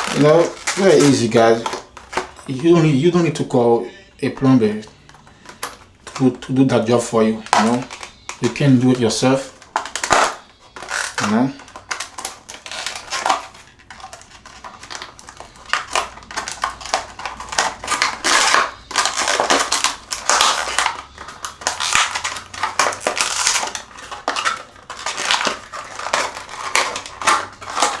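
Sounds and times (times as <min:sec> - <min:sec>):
crunching and scraping plastic: 0:00.0 - 0:28.0.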